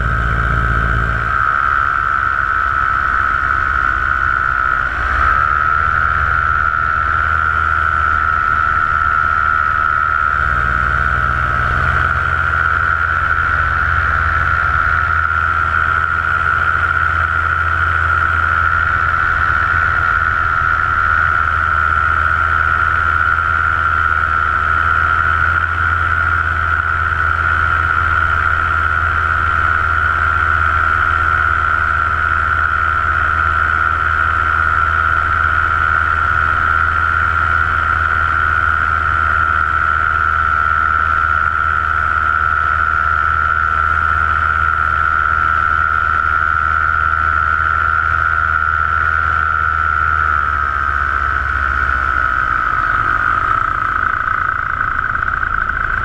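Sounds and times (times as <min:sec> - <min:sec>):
paramotor engine droning: 0:00.0 - 0:56.0.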